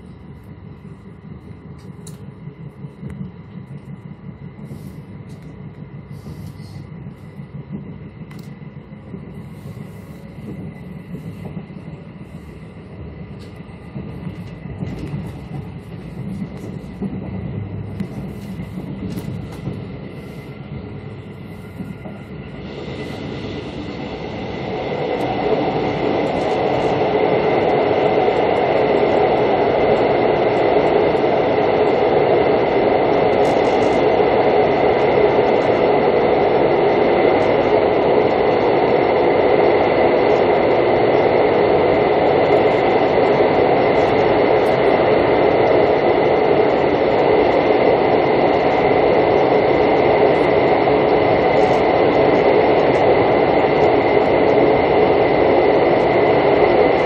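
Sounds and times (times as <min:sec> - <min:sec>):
train roaring in a tunnel: 0:00.0 - 0:57.0
train rumbling from inside: 0:00.0 - 0:57.0.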